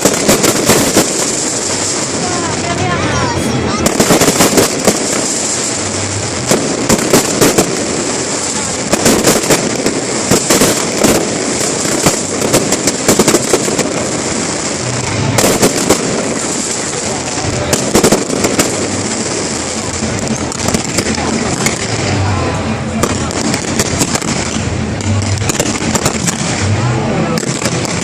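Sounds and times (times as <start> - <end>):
crowd noise: 0.0 - 28.0
fireworks bangs and crackles: 0.0 - 28.0.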